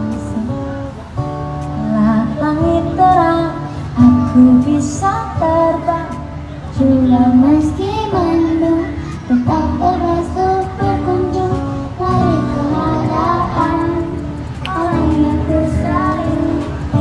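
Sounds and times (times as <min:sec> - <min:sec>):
acoustic guitar: 0:00.0 - 0:17.0
girl and woman singing: 0:01.8 - 0:17.0.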